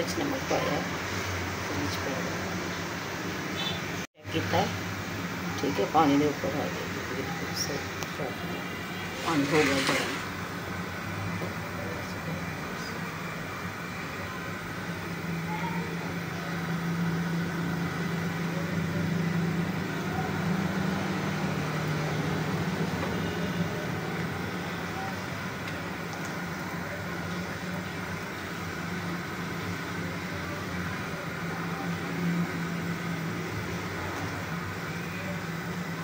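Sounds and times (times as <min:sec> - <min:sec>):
gas burner rushing hum: 0:00.0 - 0:36.0.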